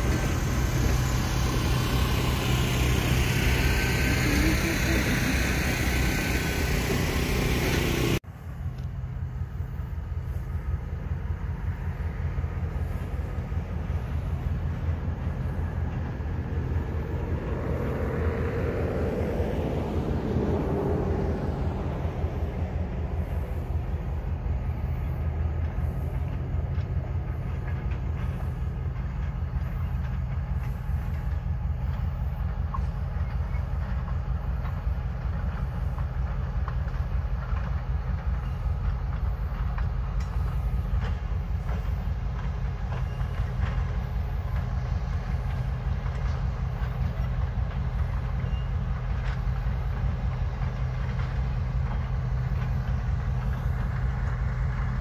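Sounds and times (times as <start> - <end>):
diesel locomotive engine running: 0.0 - 55.0
wheels clicking on rails: 0.0 - 55.0.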